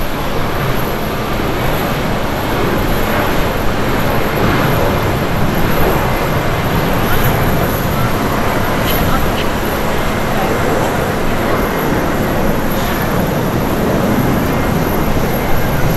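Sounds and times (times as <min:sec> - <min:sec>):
jet engine roar: 0:00.0 - 0:15.9.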